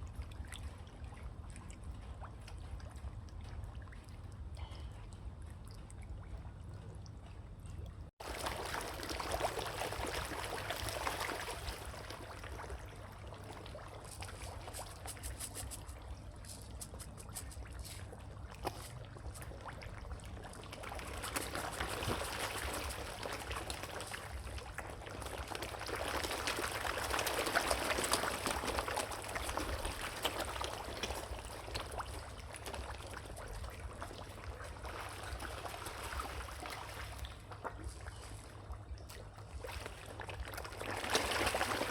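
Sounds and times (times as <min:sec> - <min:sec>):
water splashing and trickling: 0:00.0 - 0:41.9.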